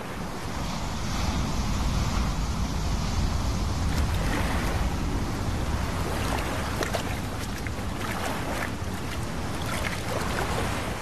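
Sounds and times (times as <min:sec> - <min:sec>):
water splashing and sloshing: 0:00.0 - 0:11.0
wind and waves rushing: 0:00.0 - 0:11.0.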